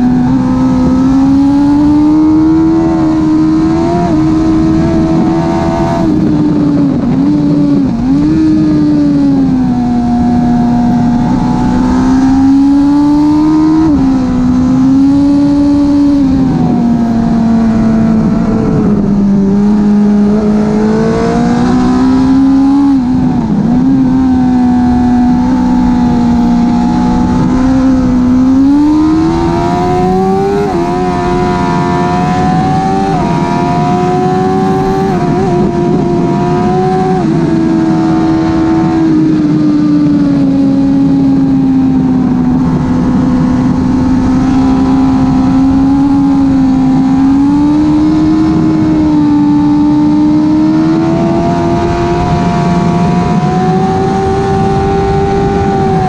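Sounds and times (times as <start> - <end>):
motorcycle engine at high revs: 0.0 - 56.0
wind rush: 0.0 - 56.0.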